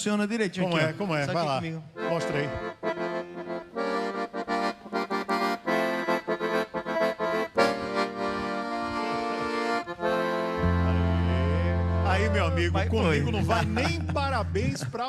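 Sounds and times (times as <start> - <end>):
accordion playing chords: 0.7 - 15.0.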